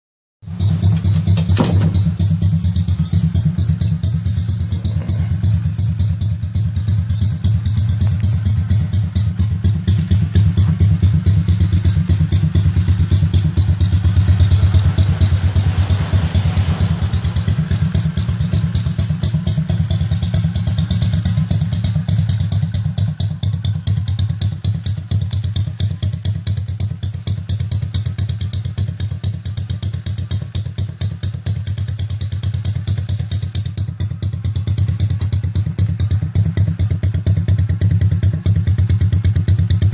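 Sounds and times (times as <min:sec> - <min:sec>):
motorcycle engine idling: 0:00.4 - 0:39.9.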